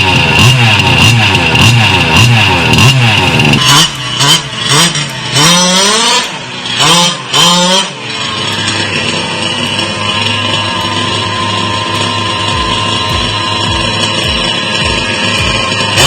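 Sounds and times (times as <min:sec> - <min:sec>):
small petrol engine revving: 0:00.0 - 0:16.0.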